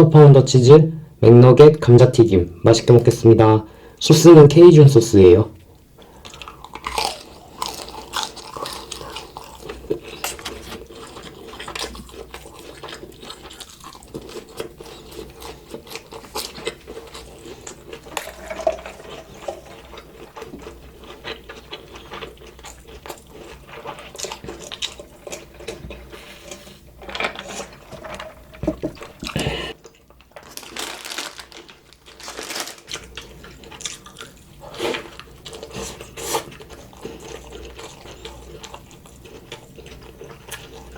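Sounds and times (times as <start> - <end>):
person chewing and crunching food: 6.0 - 40.9.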